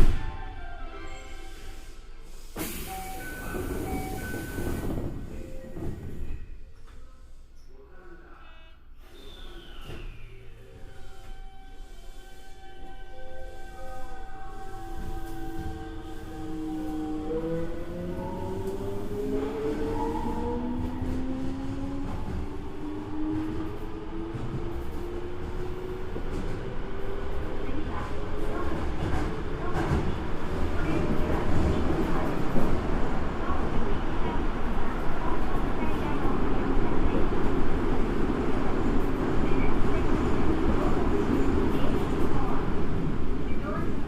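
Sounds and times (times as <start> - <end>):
subway train wheels rumbling on rail: 0.0 - 7.5, 9.1 - 44.0.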